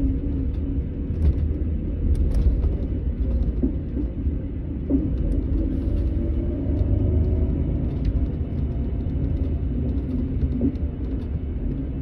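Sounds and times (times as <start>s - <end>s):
coach engine and road rumble: 0.0s - 12.0s.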